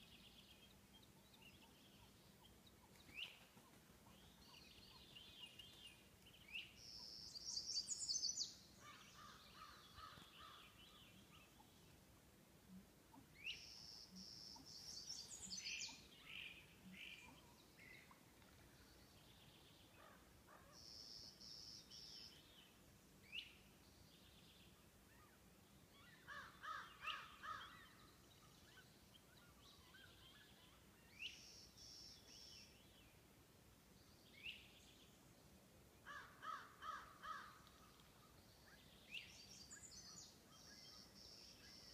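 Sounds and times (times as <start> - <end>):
songbirds singing faintly: 0.0 - 41.9.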